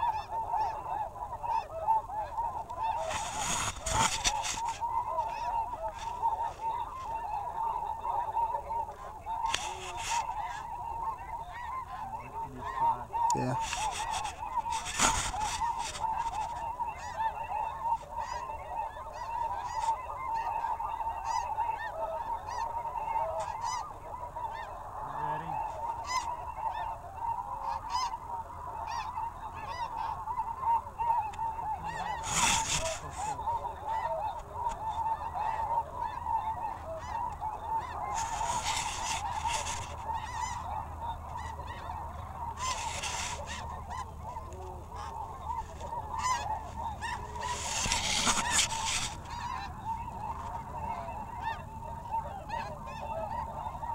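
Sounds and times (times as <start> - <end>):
geese calling: 0.0 - 53.9.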